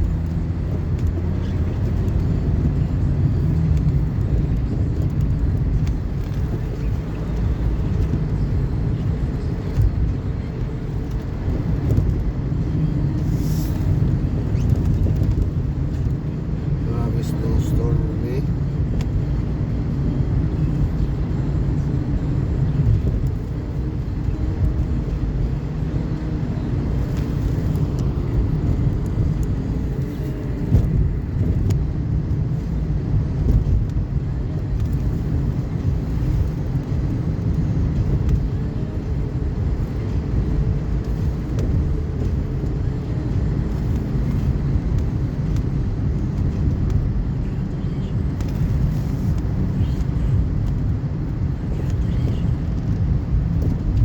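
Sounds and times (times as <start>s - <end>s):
car driving on snowy road: 0.0s - 54.0s.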